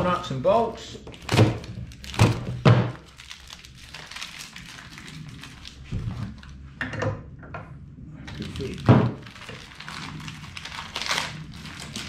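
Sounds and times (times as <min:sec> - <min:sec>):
wrapping crinkling: 0:00.0 - 0:06.6, 0:08.3 - 0:12.0.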